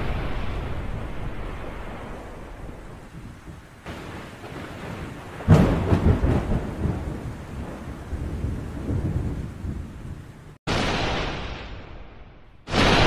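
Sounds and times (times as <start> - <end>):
loud thunder crash: 0.0 - 9.8, 10.7 - 13.0
rain-like hiss: 0.0 - 13.0
thunder clap and rumble: 0.0 - 13.0.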